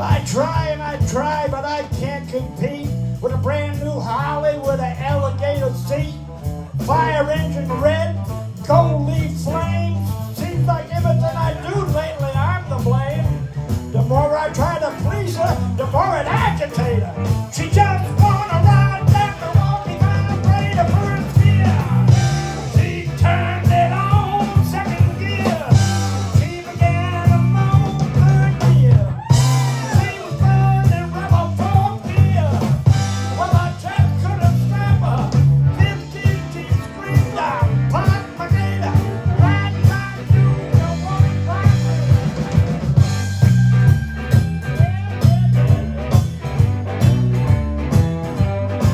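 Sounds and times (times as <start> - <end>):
drum beats: 0.0 - 48.9
lead guitar: 0.0 - 48.9
live rock band playing: 0.0 - 48.9
pulsing bass line: 0.0 - 48.9.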